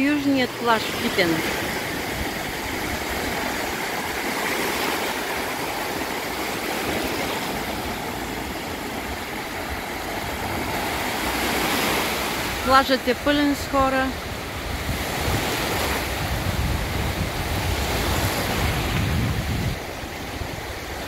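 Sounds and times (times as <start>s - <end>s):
waves washing up shore: 0.0s - 21.0s
wind rumbling on microphone: 1.1s - 12.7s, 13.3s - 21.0s.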